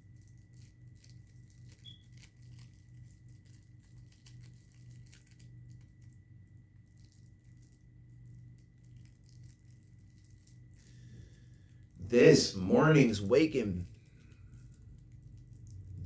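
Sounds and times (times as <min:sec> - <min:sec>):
faint clicks and crackles: 0:00.0 - 0:12.0, 0:13.3 - 0:16.0
faint electrical hum: 0:00.0 - 0:16.0.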